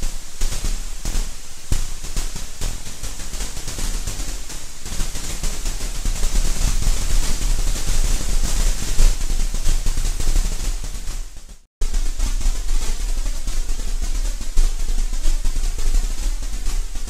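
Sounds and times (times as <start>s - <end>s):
electric crackling and sizzling: 0.0s - 17.0s.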